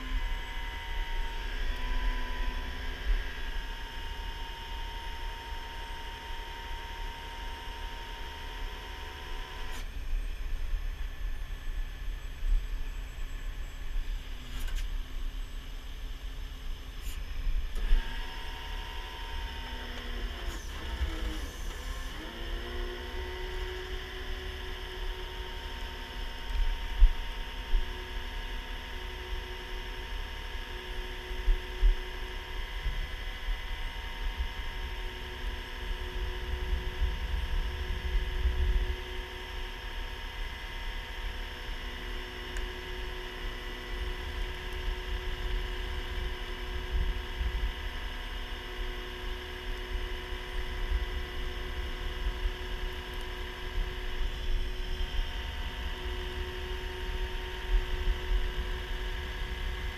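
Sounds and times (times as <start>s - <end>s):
tow truck engine and hydraulics: 0.0s - 59.9s.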